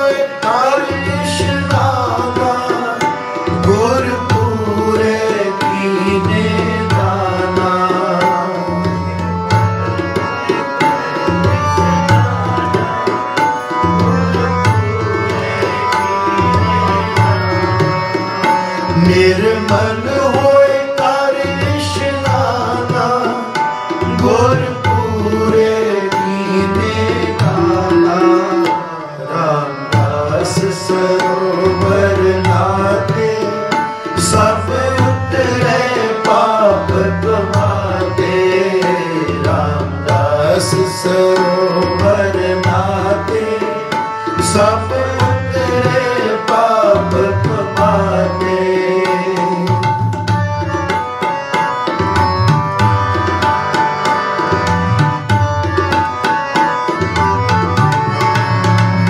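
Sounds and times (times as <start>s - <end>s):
harmonium melody: 0.0s - 59.0s
tabla rhythm: 0.0s - 59.0s.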